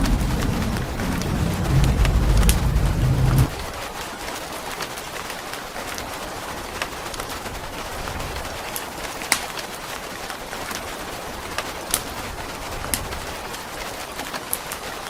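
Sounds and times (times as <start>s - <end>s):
wood fire crackling: 0.0s - 4.0s, 5.4s - 14.8s
steady rain hiss: 0.0s - 15.0s.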